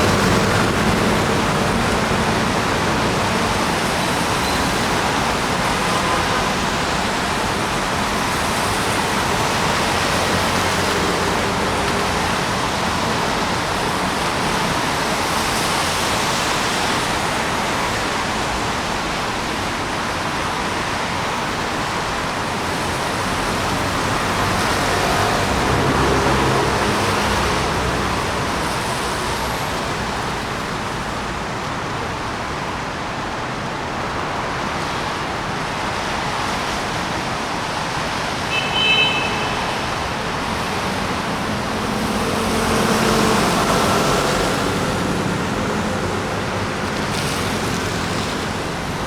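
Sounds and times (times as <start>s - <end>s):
rain: 0.0s - 49.0s
traffic on wet street: 0.0s - 49.0s.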